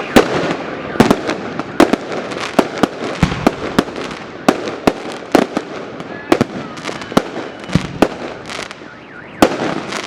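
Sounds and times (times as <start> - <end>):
firework bangs: 0.0 - 10.0
firework crackle: 0.0 - 10.0.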